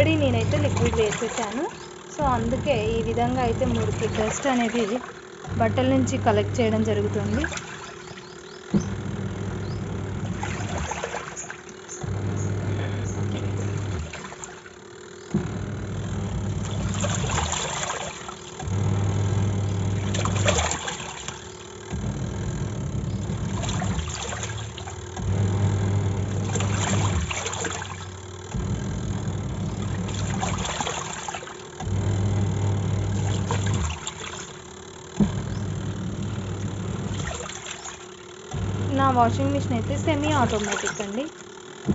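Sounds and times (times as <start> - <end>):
washing machine motor humming: 0.0 - 41.9
water sloshing: 0.0 - 41.9.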